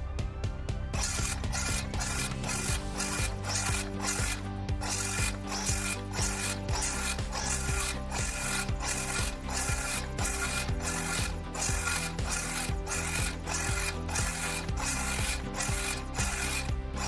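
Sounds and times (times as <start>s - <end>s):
music: 0.0s - 17.0s
circular saw cutting wood: 1.0s - 17.0s.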